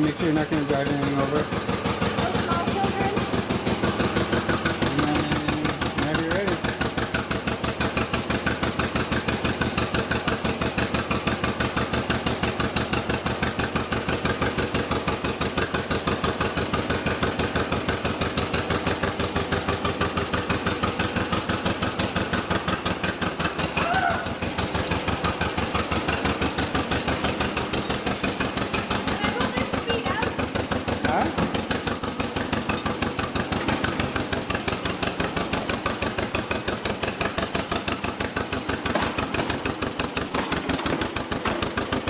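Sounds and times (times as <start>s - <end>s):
tractor engine putt-putt: 0.0s - 42.0s.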